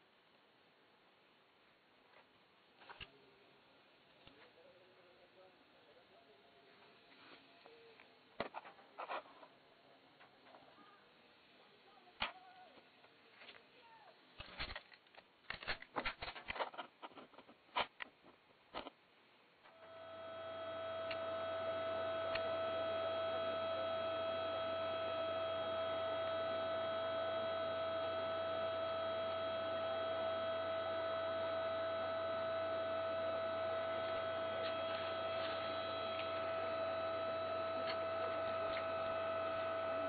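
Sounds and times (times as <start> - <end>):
steady electrical hum: 0.0 - 40.0.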